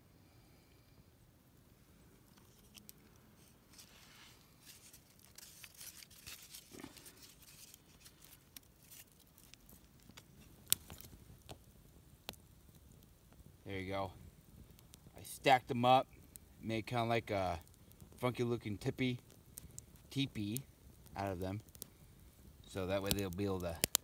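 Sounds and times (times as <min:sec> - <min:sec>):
kindling crackling and snapping: 0:01.5 - 0:24.0.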